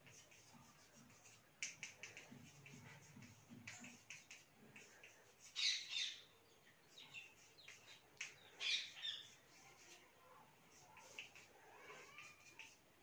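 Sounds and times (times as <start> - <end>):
chalk tapping and scratching: 0.0 - 6.2, 6.8 - 13.0.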